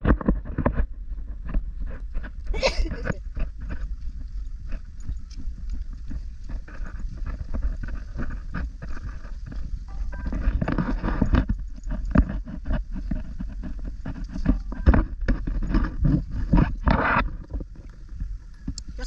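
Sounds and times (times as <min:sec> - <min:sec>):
footsteps on dirt and stone: 0:00.0 - 0:19.0
wind on microphone: 0:00.0 - 0:19.0.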